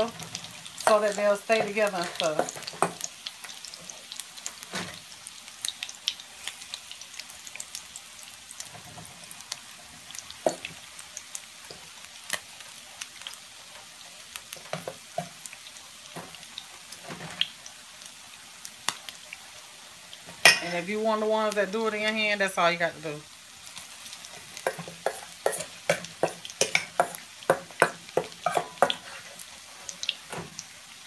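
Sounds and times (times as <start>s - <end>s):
croquettes sizzling in oil: 0.0s - 31.0s.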